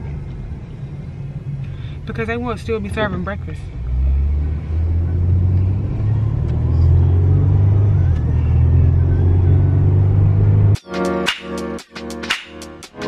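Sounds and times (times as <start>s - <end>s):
car engine and road rumble: 0.0s - 10.8s.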